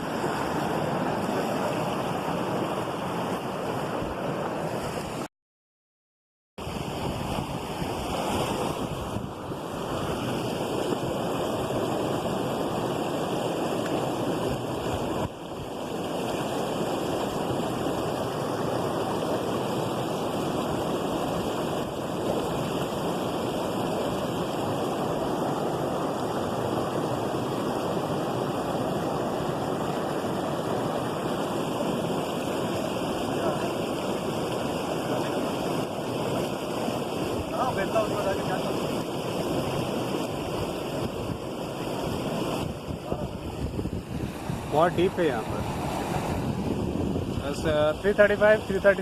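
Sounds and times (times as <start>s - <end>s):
waterfall roaring: 9.6s - 49.0s.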